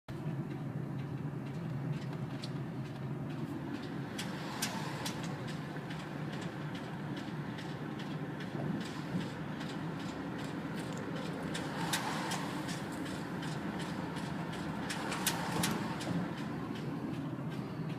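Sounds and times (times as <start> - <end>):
car engine idling: 0.1 - 17.9
sharp engine ticking: 0.2 - 17.9.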